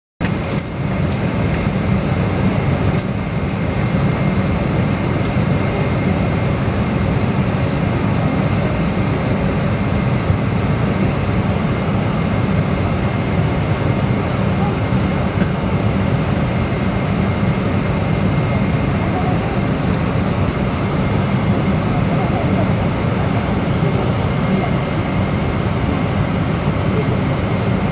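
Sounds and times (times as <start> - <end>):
jet engines idling: 0.2 - 27.9.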